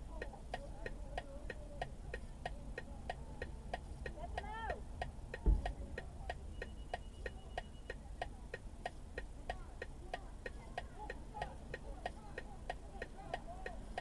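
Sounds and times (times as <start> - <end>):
rapid mechanical ticking: 0.0 - 14.0.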